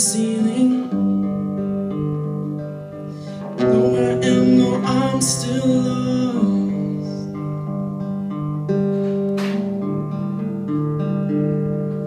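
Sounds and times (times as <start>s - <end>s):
solo guitar chords: 0.0s - 12.0s.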